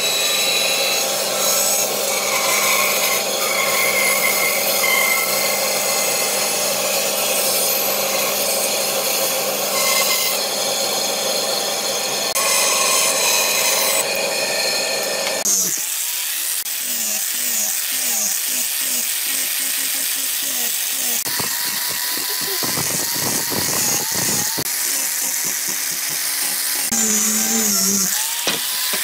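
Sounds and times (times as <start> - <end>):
angle grinder sanding wood: 0.0 - 29.0
band saw cutting wood: 0.0 - 29.0.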